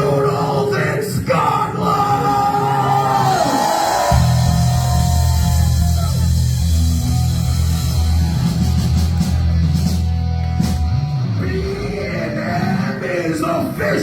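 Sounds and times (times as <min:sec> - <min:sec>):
live heavy rock band: 0:02.3 - 0:14.0.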